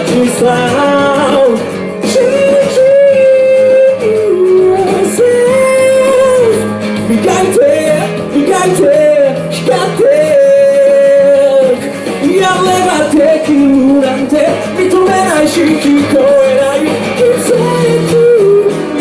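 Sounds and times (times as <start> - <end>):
man singing into microphone: 0.0 - 19.0
strummed acoustic guitar: 0.0 - 19.0.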